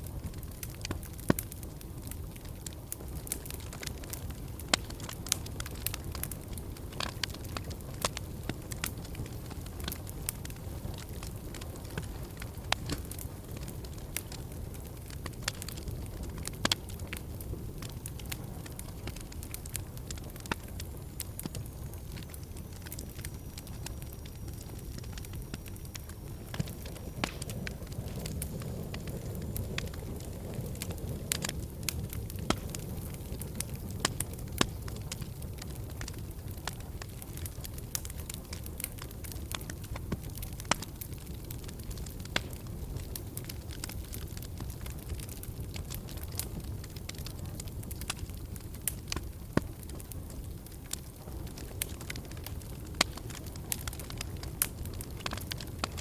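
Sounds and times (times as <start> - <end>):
fire crackling and popping: 0.0 - 56.0
fire flames burning: 0.0 - 56.0.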